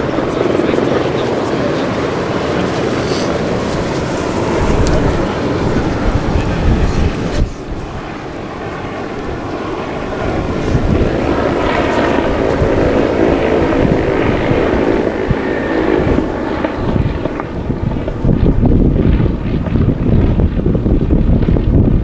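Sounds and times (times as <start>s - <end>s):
model airplane engine flying past: 0.0s - 22.0s
wind buffeting microphone: 0.0s - 22.0s.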